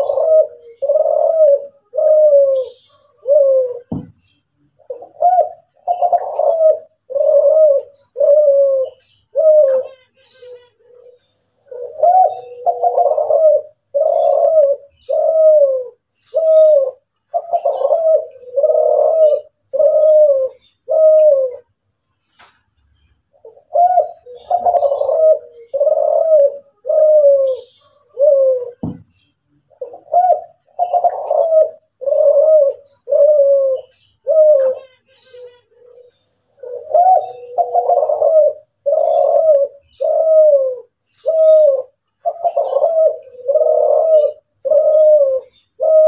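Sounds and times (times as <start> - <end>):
dove cooing: 0.0 - 21.8, 23.3 - 46.0
small birds chirping: 0.0 - 46.0.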